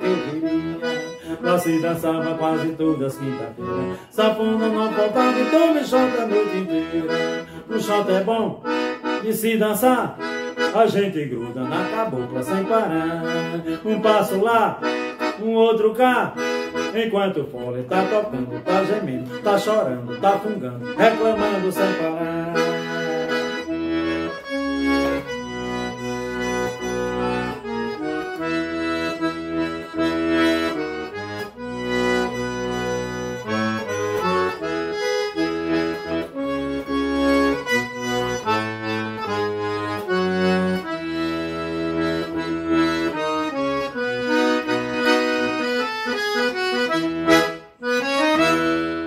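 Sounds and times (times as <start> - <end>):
accordion playing: 0.0 - 49.0.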